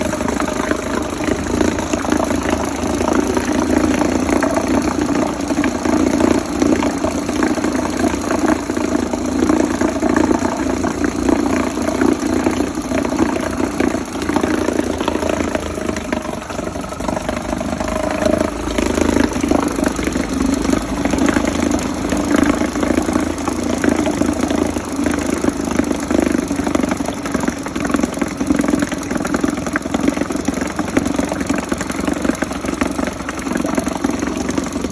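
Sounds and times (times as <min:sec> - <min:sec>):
outboard motor idling: 0:00.0 - 0:34.9.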